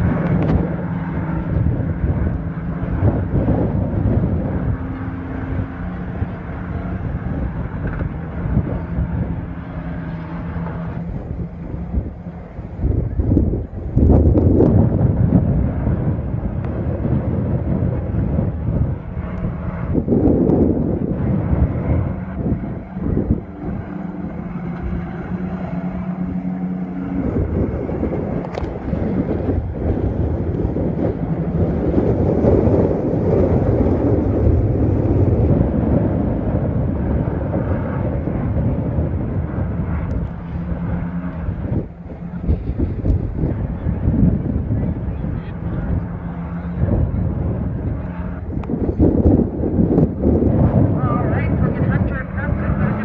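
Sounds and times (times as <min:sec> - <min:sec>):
racing truck engines at speed: 0:00.0 - 0:53.0.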